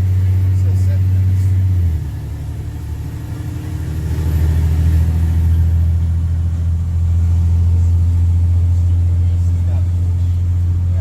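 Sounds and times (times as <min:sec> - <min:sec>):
diesel bus engine exhaust: 0:00.0 - 0:11.0.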